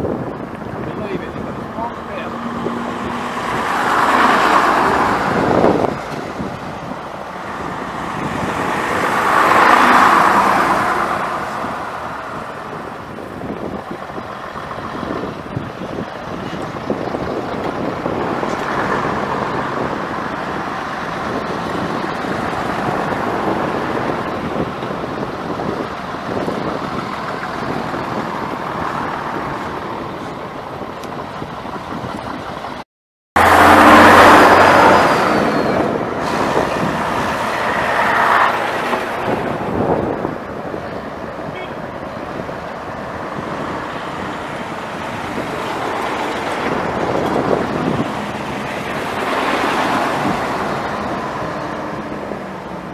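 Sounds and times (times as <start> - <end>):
buses driving past: 0.0 - 32.8, 33.4 - 52.9.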